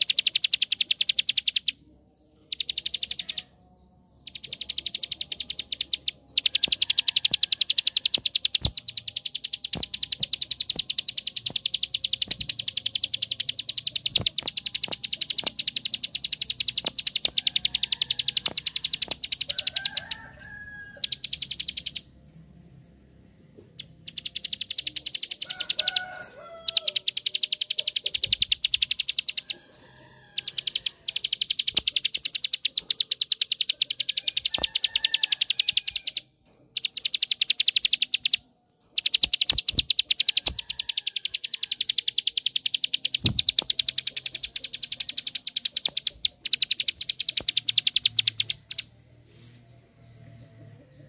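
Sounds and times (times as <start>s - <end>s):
bird singing rapid trills: 0.0s - 22.1s, 23.7s - 49.0s.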